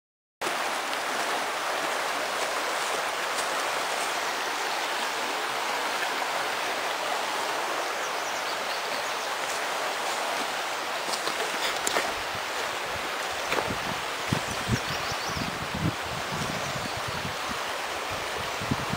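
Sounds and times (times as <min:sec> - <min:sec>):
fast water rushing: 0:00.4 - 0:18.9.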